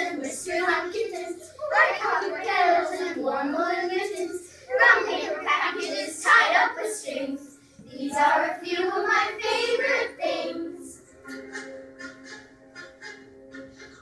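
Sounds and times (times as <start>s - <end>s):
children singing together: 0.0s - 14.0s
music with held notes: 0.0s - 14.0s.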